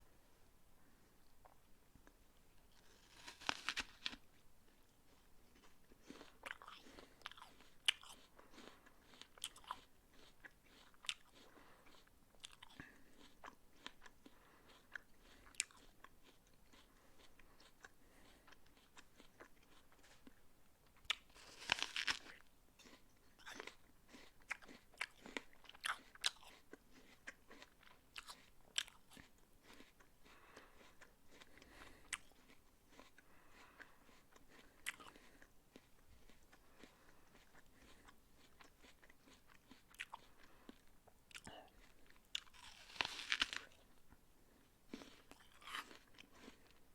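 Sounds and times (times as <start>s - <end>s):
person biting and chewing apple: 1.4s - 44.1s, 44.9s - 46.9s.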